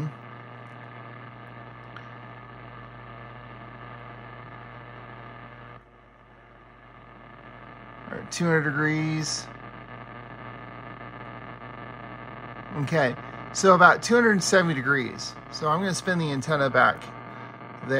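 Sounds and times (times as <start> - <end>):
buzzing radio interference hiss: 0.0 - 17.9.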